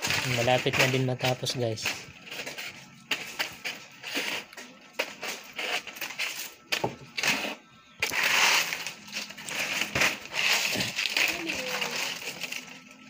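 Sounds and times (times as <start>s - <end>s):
palm leaves rustling and crackling: 0.0s - 13.0s.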